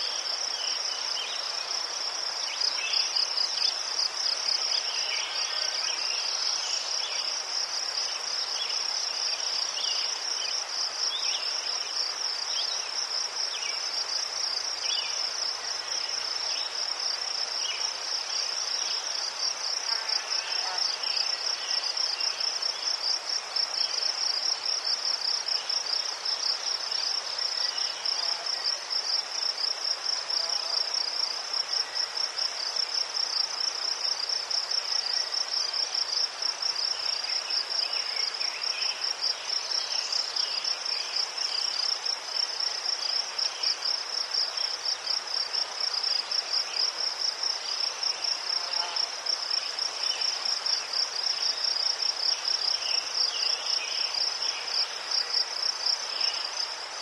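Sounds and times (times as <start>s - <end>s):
faint cricket chirps: 0.0s - 57.0s.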